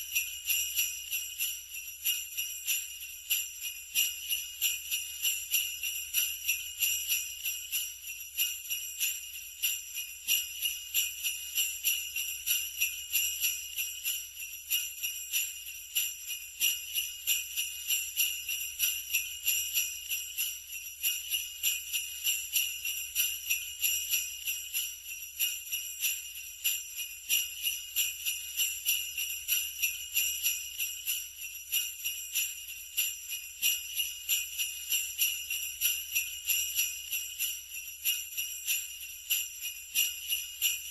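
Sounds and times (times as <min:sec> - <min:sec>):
sleigh bells jingling: 0:00.0 - 0:40.9.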